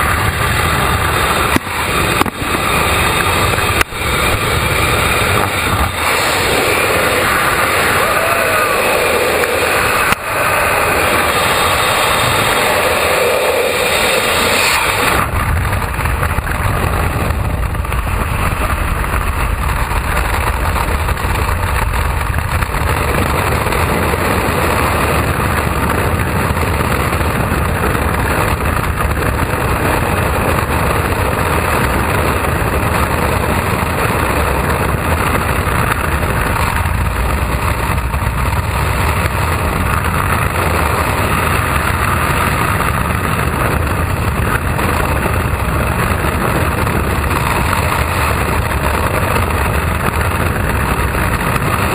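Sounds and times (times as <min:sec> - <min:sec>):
freefall wind buffeting microphone: 0:00.0 - 0:51.9.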